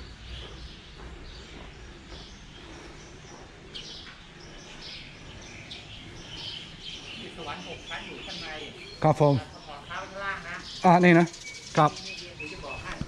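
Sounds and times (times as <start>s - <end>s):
birds chirping: 0.0s - 13.0s
low outdoor background noise: 0.0s - 13.0s.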